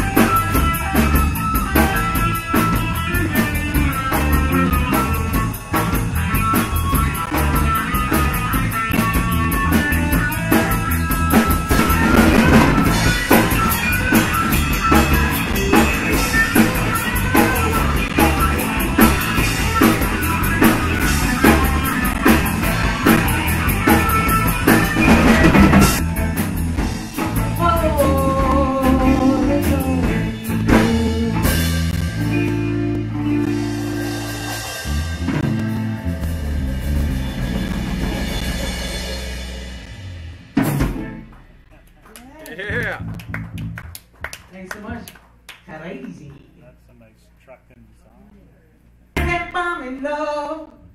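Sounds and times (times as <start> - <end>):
electric guitar: 0.0 - 42.0
bass guitar: 0.0 - 44.1, 48.9 - 49.9
drum kit: 0.0 - 44.3, 49.1 - 49.7.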